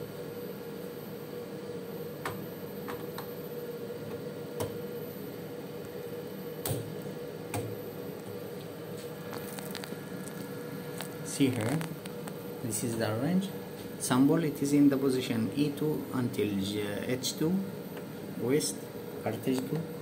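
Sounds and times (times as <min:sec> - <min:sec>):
laboratory equipment humming: 0:00.0 - 0:20.0.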